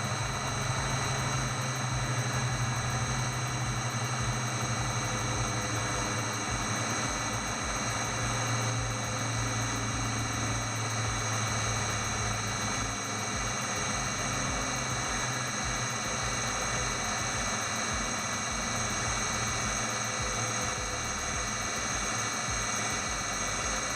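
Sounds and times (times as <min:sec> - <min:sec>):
centrifuge motor humming and whining: 0:00.0 - 0:23.9.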